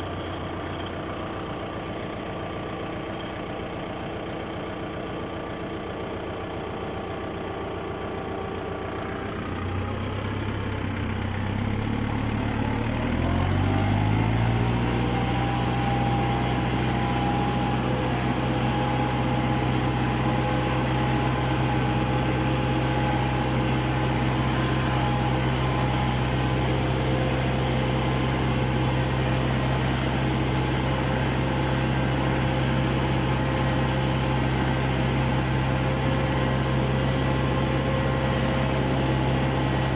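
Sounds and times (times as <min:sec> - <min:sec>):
tractor engine speeding up: 0:06.9 - 0:39.9.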